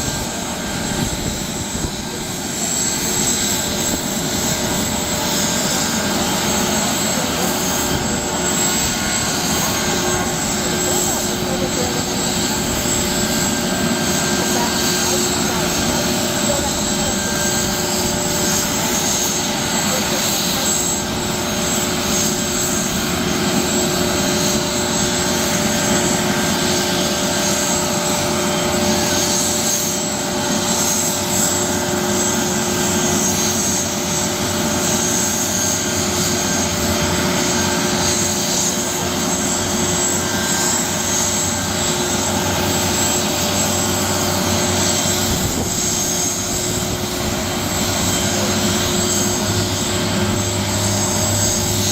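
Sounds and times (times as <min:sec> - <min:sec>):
helicopter rotor: 0:00.0 - 0:51.9
high turbine whine: 0:00.0 - 0:51.9.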